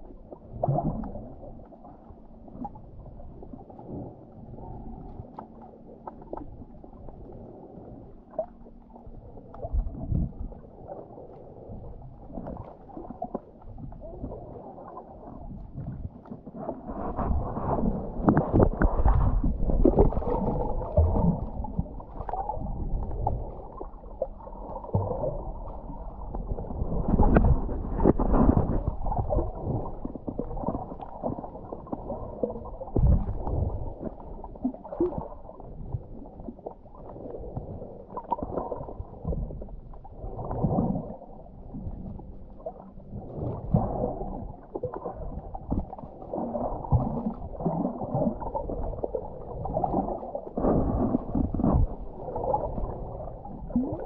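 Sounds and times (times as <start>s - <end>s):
water sloshing underwater: 0.0s - 54.0s.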